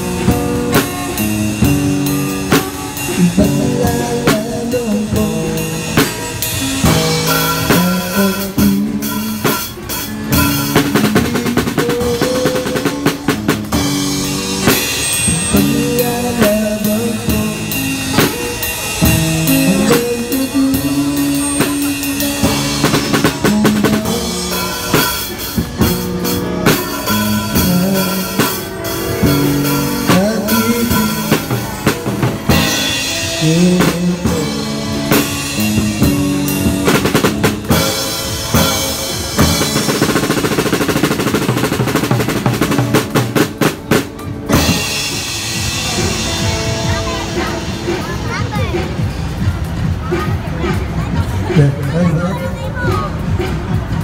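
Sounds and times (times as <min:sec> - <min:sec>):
electric guitar melody: 0:00.0 - 0:53.5
drum kit playing a busy beat: 0:00.0 - 0:54.0.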